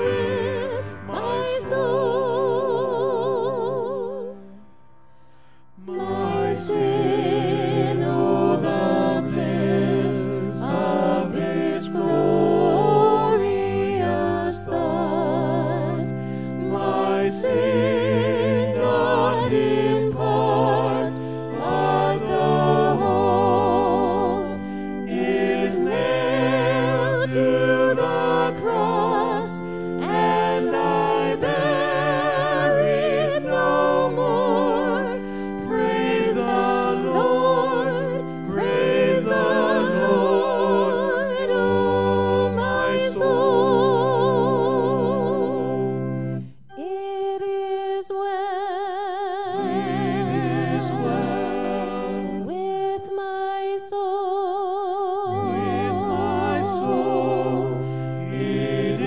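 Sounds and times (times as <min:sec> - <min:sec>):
voices singing held notes: 0:00.0 - 0:04.6, 0:05.8 - 0:48.3, 0:49.5 - 0:54.0, 0:55.2 - 0:59.0
sustained instrumental accompaniment: 0:00.0 - 0:47.1, 0:49.5 - 0:53.4, 0:55.3 - 0:59.0.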